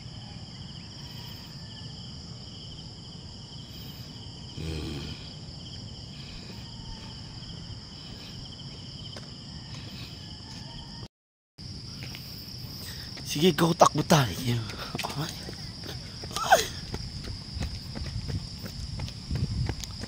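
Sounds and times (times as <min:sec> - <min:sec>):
insects chirring: 0:00.0 - 0:20.0
pulsing insect trill: 0:00.0 - 0:20.0.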